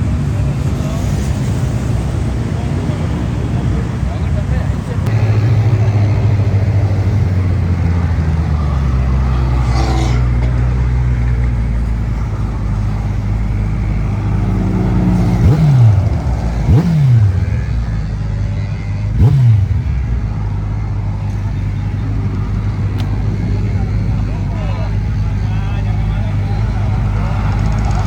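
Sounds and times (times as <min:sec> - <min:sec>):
motorcycle engine idling: 0:00.0 - 0:28.0
motorcycle engine revving: 0:00.0 - 0:28.0.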